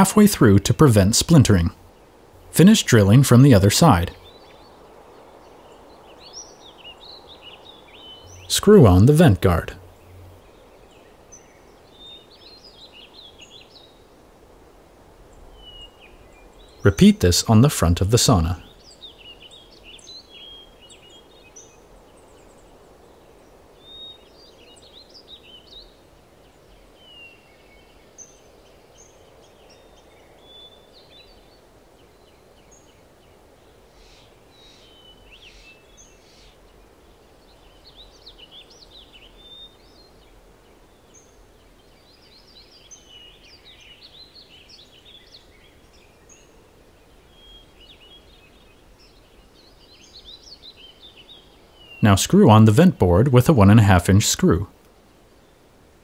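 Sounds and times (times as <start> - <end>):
faint background hiss: 0.0 - 56.0
small birds chirping and trilling: 0.0 - 56.0.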